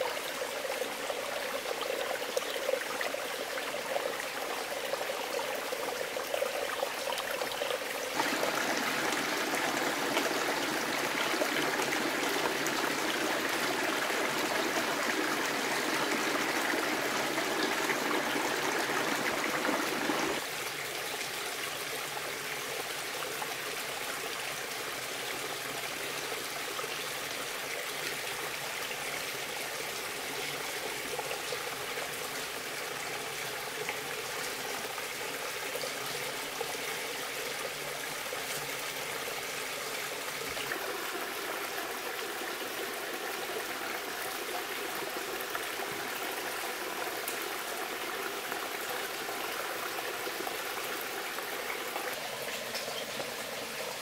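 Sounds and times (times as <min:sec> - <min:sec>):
forest stream running: 0:00.0 - 0:54.0.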